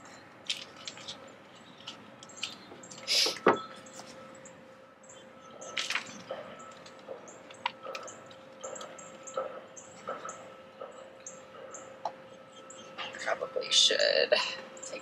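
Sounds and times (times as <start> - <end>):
bird chirps: 0.8 - 13.4.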